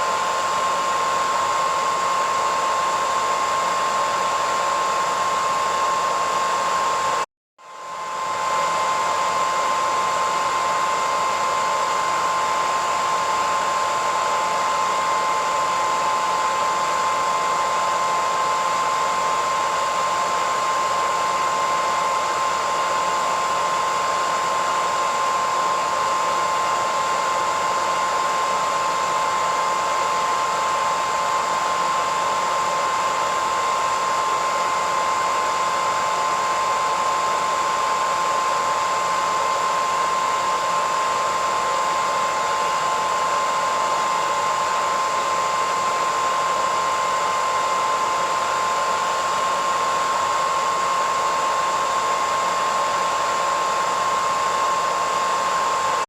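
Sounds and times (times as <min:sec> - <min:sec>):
hairdryer running: 0:00.0 - 0:56.0.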